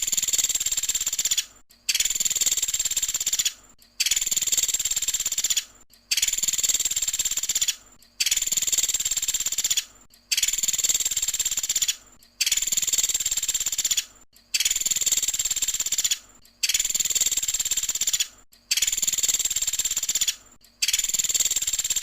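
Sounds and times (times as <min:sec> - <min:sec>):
woodpecker high trilled call: 0:00.0 - 0:22.0.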